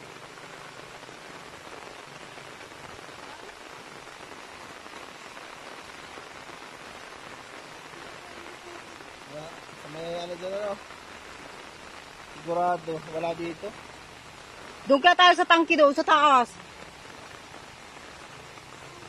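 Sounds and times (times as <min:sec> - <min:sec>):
rain falling on water and leaves: 0:00.0 - 0:19.0.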